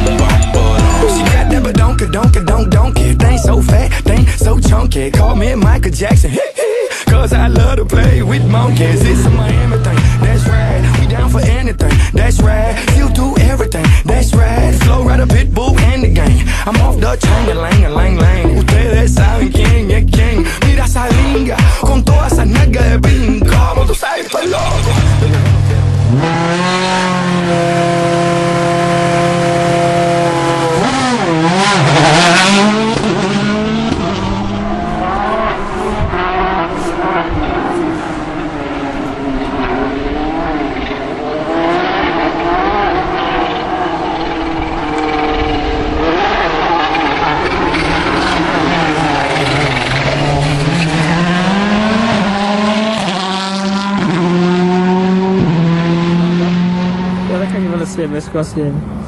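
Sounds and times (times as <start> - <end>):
rally car engine revving: 0.0 - 6.3, 7.0 - 59.0.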